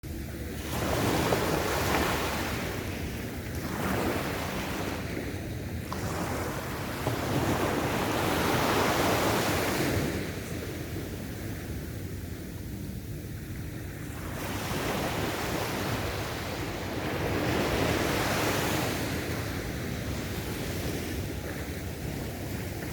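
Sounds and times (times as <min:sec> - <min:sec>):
wind on microphone: 0:00.0 - 0:22.9
sea waves breaking on beach: 0:00.1 - 0:22.9.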